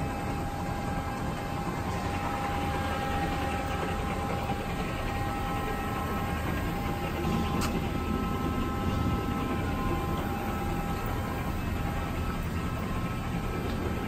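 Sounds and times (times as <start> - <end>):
faint whining tones: 0.0 - 14.0
machine shop rumble: 0.0 - 14.0.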